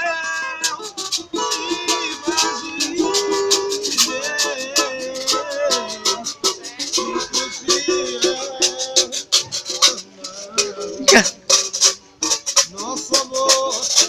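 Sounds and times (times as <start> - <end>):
shaken percussion rattling: 0.0 - 14.0
strummed plucked strings: 0.6 - 14.0.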